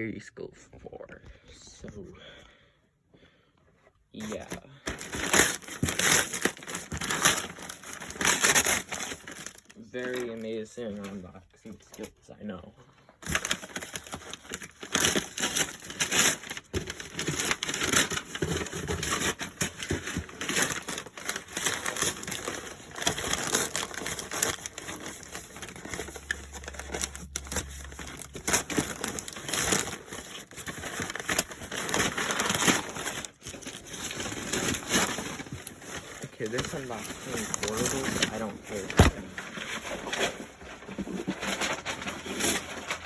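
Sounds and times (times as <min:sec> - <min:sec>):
packaging crinkling and rustling: 0:04.2 - 0:12.1, 0:13.1 - 0:43.0.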